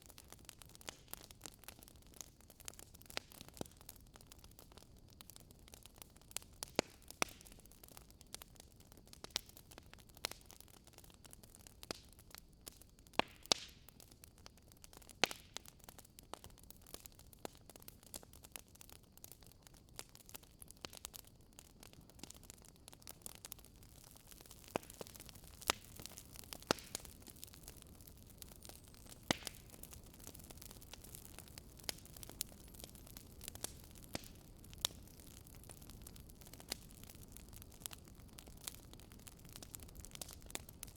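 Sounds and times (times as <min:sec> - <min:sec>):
soft steady fire hiss: 0:00.0 - 0:40.9
wood crackling and popping: 0:00.0 - 0:40.9.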